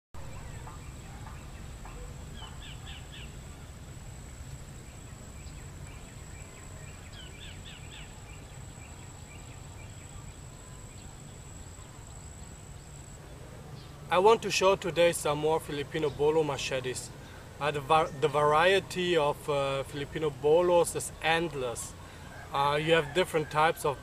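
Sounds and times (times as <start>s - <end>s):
birds chirping: 0.2s - 24.0s.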